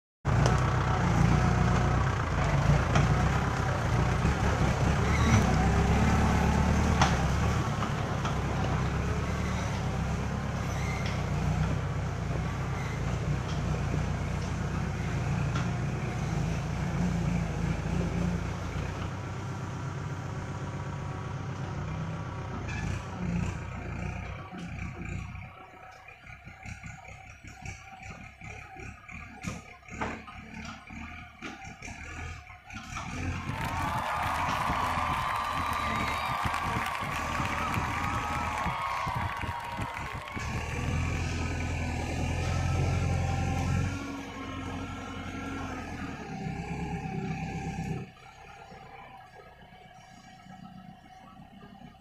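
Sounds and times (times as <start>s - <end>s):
tractor engine driving through mud: 0.3s - 52.0s.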